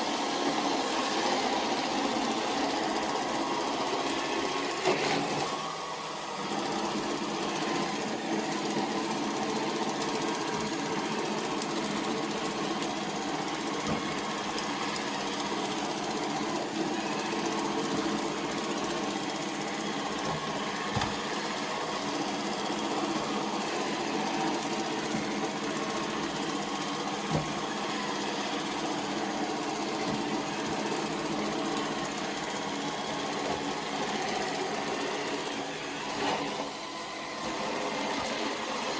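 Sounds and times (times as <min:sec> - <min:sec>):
robot vacuum motor hum: 0:06.4 - 0:38.9.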